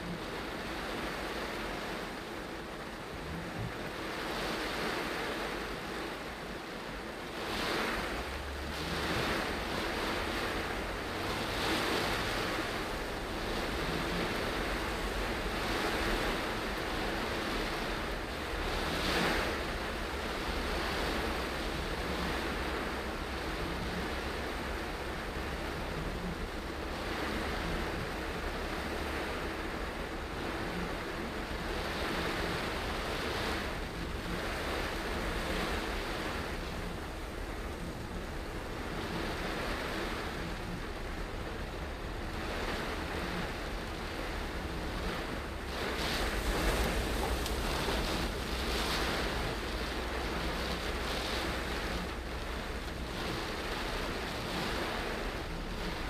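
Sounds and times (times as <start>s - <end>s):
heavy rain on car roof: 0.0s - 56.0s
windscreen wipers sweeping: 0.0s - 56.0s.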